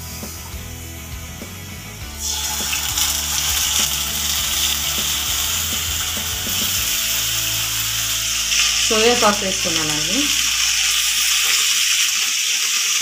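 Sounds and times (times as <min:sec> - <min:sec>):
onions sizzling in oil: 0:02.1 - 0:13.0.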